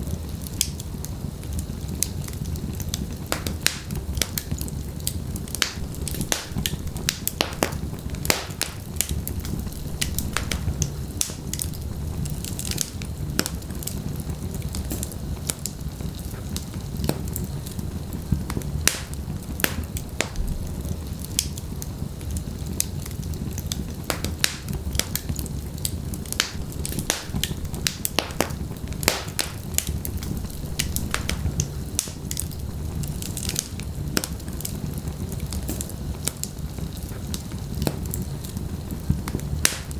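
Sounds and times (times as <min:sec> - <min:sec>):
logs crackling and popping: 0:00.0 - 0:39.9
low rumble of flame: 0:00.0 - 0:39.9.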